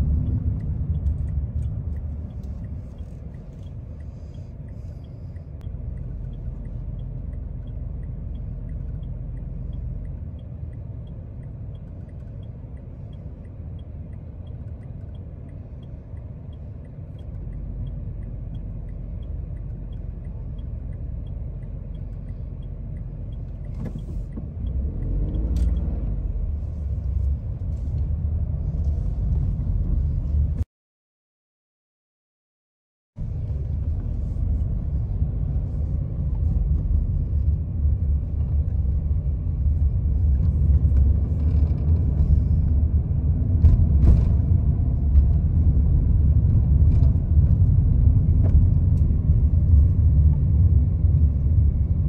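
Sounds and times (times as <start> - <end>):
low rumble of traffic engines: 0.0 - 30.7, 33.2 - 52.0.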